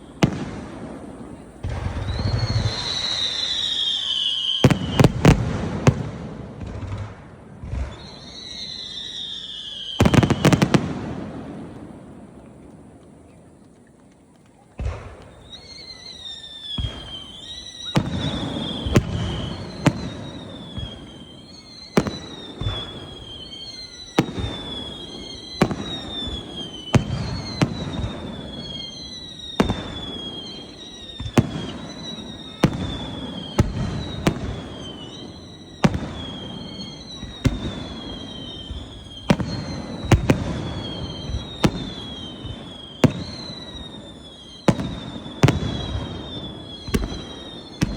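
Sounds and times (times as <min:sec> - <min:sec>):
fireworks bangs: 0:00.0 - 0:47.9
fireworks whistling: 0:00.0 - 0:47.9.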